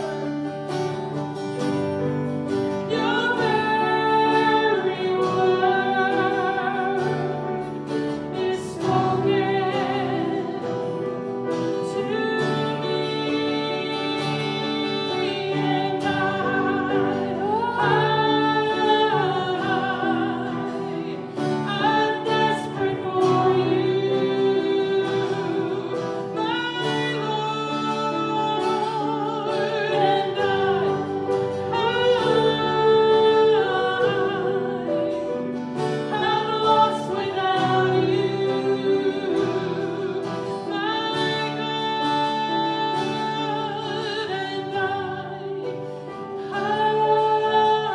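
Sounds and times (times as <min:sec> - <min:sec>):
instrumental accompaniment: 0:00.0 - 0:47.9
voices singing a hymn: 0:00.0 - 0:47.9.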